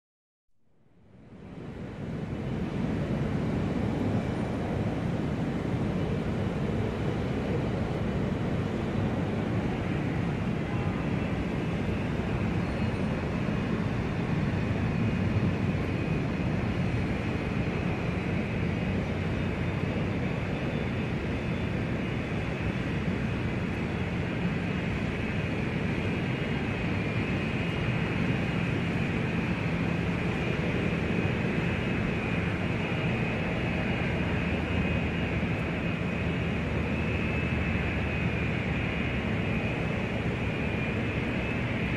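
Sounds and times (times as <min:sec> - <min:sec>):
faint high whine: 0:00.6 - 0:41.9
steady rumble and hiss: 0:01.0 - 0:41.9.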